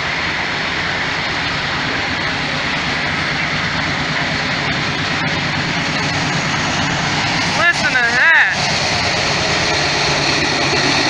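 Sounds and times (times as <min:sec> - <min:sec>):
diesel locomotive roaring: 0:00.0 - 0:11.0
rail cars rumbling past: 0:00.0 - 0:11.0.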